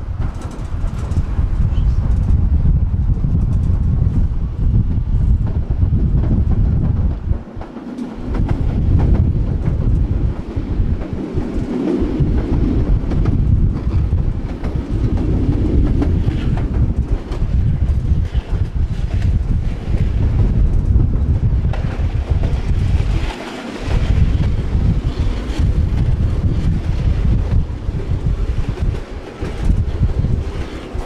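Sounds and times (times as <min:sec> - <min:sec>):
tram wheels rumbling on rail: 0:00.0 - 0:31.0.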